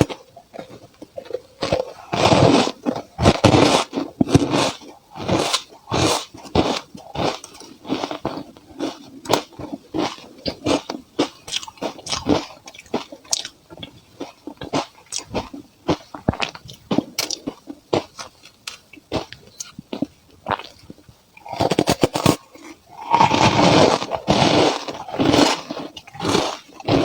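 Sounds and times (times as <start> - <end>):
ice being chewed: 0.0 - 27.0.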